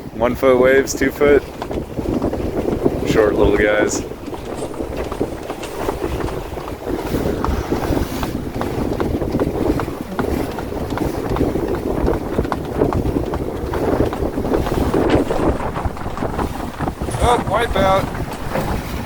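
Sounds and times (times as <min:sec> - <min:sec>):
choppy water washing: 0:00.0 - 0:19.0
wind buffeting microphone: 0:00.0 - 0:19.0.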